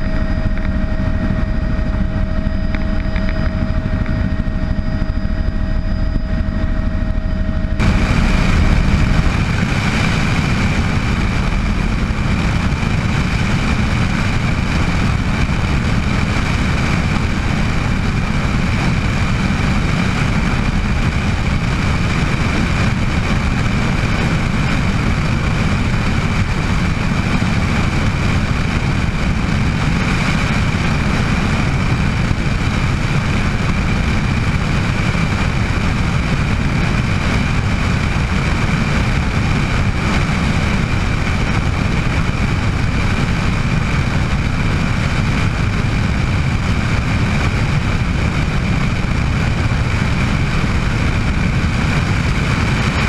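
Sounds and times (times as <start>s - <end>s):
helicopter rotor and engine drone: 0.0s - 53.0s
steady high whine: 0.0s - 53.0s.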